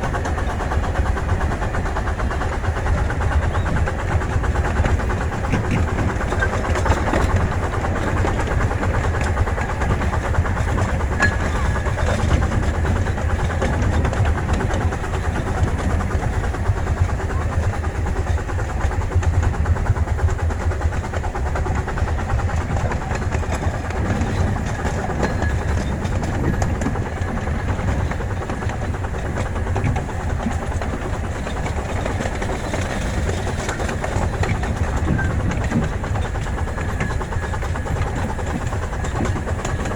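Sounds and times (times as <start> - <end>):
miniature train rumbling on track: 0.0 - 39.9.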